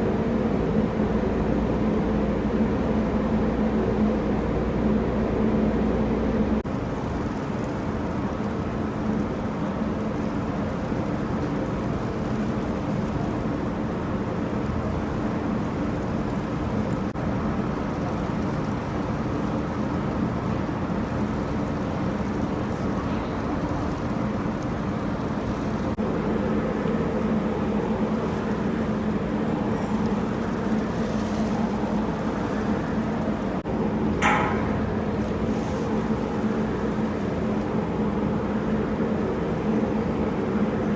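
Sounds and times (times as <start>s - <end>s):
water rushing along hull: 0.0s - 40.9s
boat engine running: 1.5s - 39.6s.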